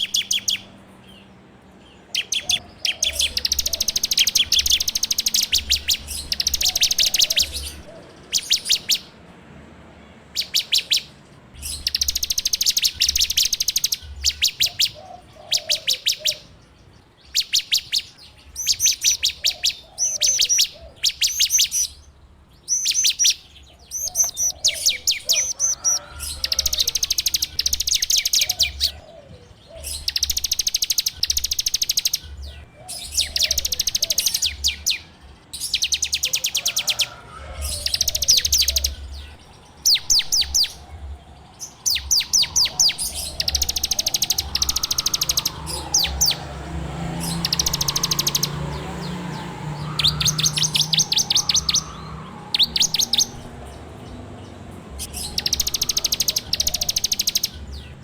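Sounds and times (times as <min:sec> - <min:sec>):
bird singing buzzing trills: 0:00.0 - 0:01.4, 0:02.1 - 0:09.1, 0:10.4 - 0:16.5, 0:17.3 - 0:29.2, 0:29.8 - 0:58.0.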